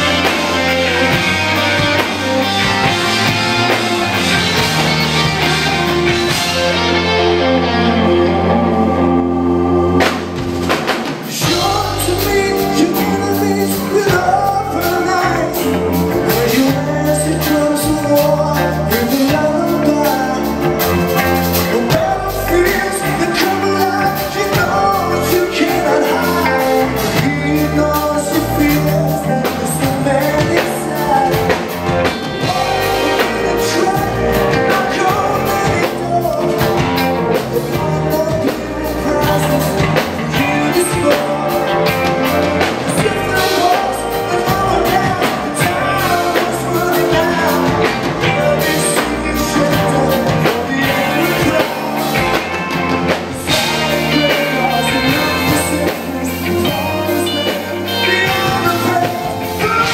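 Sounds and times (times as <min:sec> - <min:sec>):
man singing lead vocal: 0:00.0 - 0:59.9
rock band playing live: 0:00.0 - 0:59.9.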